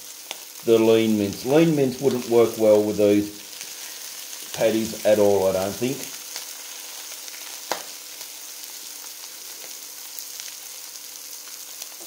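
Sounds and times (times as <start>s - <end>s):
patties sizzling in a frypan: 0.0s - 12.0s.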